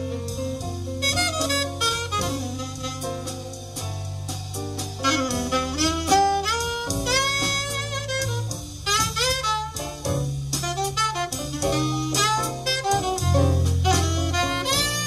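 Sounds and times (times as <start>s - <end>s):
double bass notes: 0.0s - 15.0s
alto saxophone melody: 1.0s - 4.2s, 5.0s - 15.0s.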